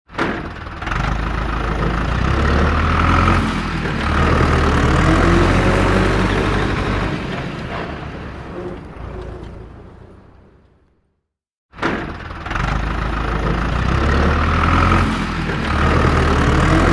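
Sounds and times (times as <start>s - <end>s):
truck diesel engine running: 0.5s - 11.0s, 12.2s - 16.9s.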